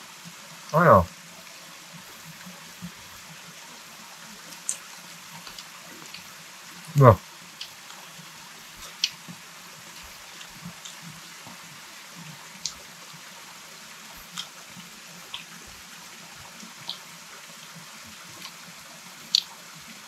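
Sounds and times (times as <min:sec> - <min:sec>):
flowing water: 0:00.0 - 0:20.0.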